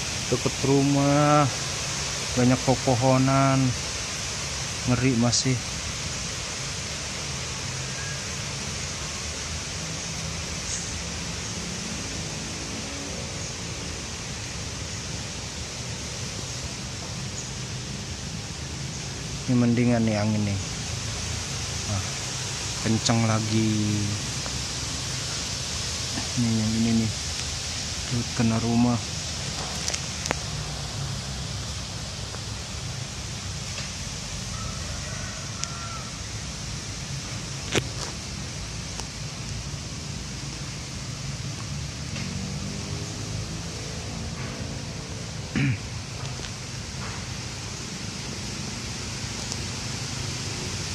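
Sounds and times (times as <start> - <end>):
strong wind through trees: 0.0 - 50.9.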